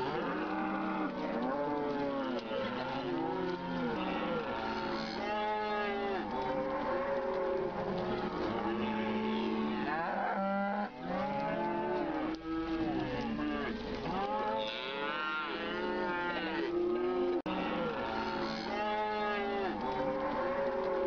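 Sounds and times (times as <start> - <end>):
cattle mooing: 0.0 - 21.0.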